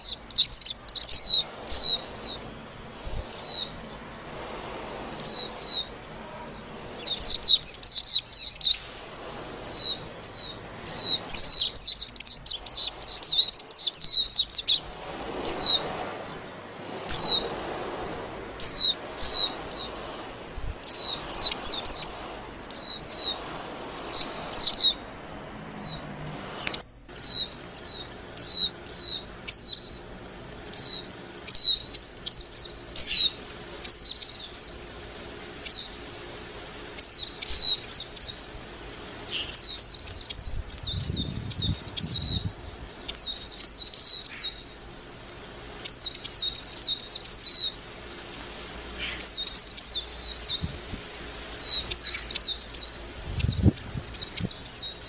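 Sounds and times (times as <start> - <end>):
bird twittering song: 0.0 - 16.5, 17.1 - 17.6, 18.2 - 55.0.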